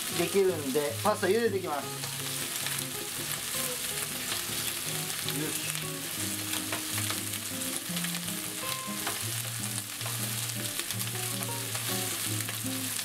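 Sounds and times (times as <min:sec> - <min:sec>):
food sizzling in a frying pan: 0:00.0 - 0:13.0
low background music: 0:00.0 - 0:13.0.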